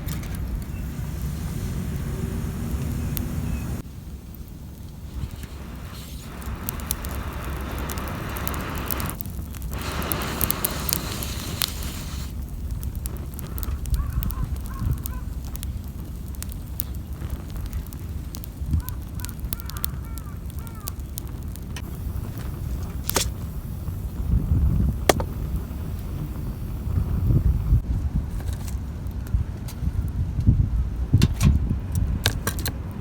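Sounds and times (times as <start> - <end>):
rushing hiss: 0.0 - 27.8
low rumble: 0.0 - 32.2
wood fire crackling: 0.0 - 33.0.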